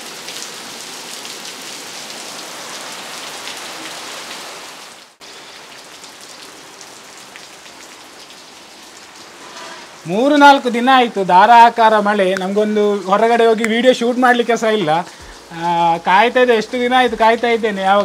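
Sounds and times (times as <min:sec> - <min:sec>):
heavy rain falling on leaves: 0:00.0 - 0:18.0.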